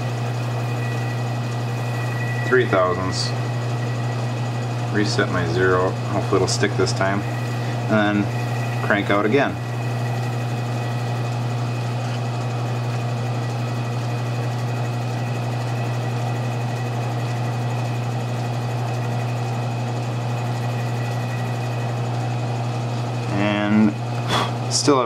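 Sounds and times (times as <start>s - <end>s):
faint high whine: 0.0s - 22.6s
metal lathe humming: 0.0s - 25.0s.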